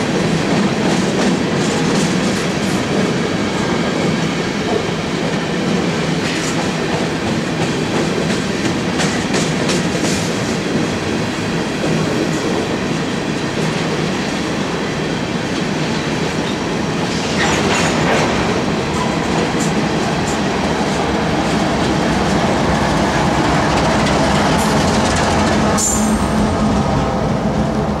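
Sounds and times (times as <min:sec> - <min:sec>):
diesel locomotive engine hum: 0:00.0 - 0:28.0
train wheels clattering on rails: 0:00.0 - 0:28.0.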